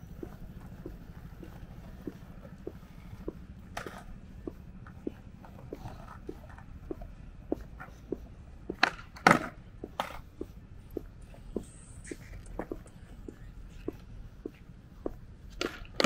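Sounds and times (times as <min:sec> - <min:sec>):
footsteps walking: 0:00.0 - 0:16.0
low street hum: 0:00.0 - 0:16.0.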